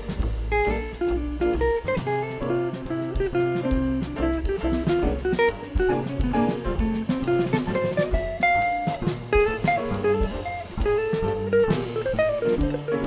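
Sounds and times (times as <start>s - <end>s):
double bass: 0.0s - 13.0s
drum kit: 0.0s - 13.0s
jazz guitar solo: 0.0s - 13.0s.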